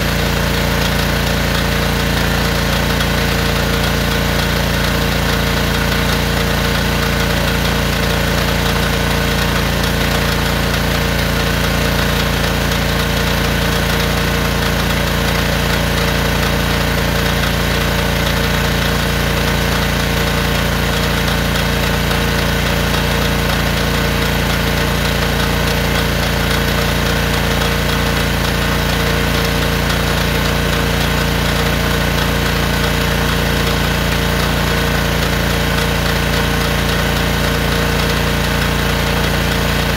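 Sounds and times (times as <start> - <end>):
gas engine running steadily: 0.0 - 39.9.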